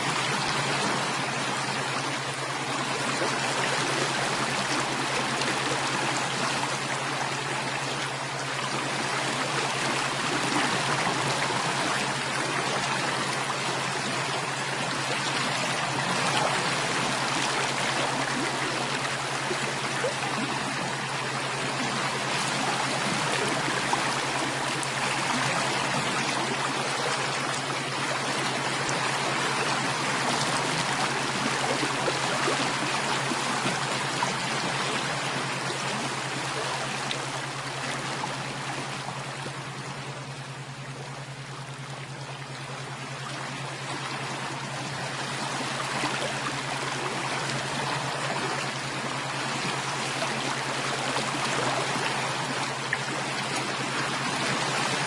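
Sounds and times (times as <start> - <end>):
steady low hum: 0.0 - 55.0
stream water rushing: 0.0 - 55.0.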